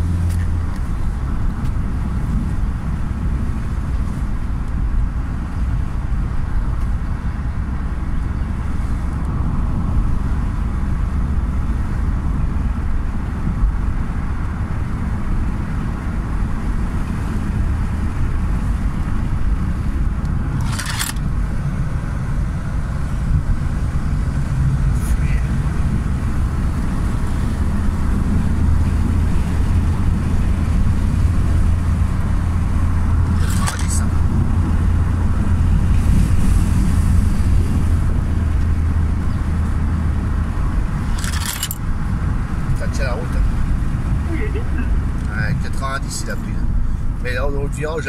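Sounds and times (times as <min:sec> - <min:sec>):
car engine and tyres rumbling: 0:00.0 - 0:48.0.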